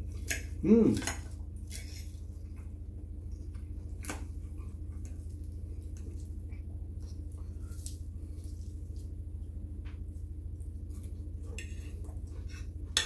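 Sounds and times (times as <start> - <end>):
soft chewing: 0.0 - 13.0
steady low hum: 0.0 - 13.0.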